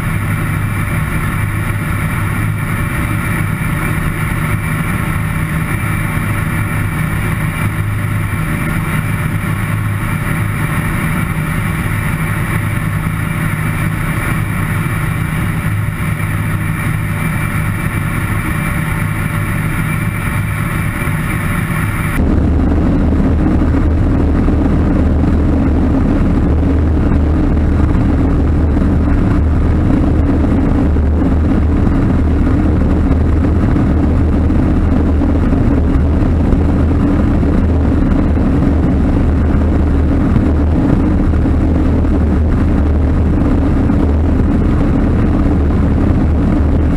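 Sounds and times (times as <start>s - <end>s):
aircraft engine droning: 0.0s - 46.9s.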